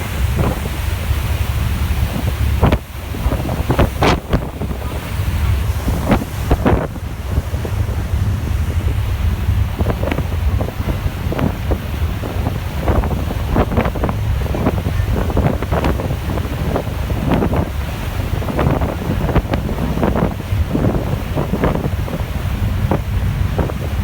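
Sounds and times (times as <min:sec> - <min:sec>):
steady low rumble: 0:00.0 - 0:24.0
wind buffeting microphone: 0:00.0 - 0:24.0.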